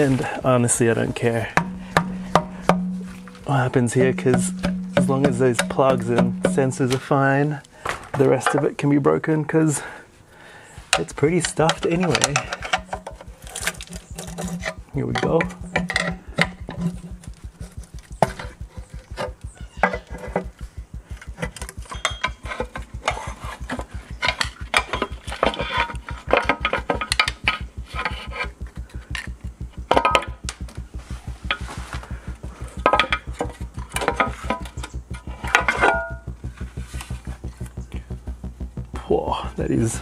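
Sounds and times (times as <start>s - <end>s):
background music with steady beat: 0.0s - 7.9s, 10.4s - 40.0s.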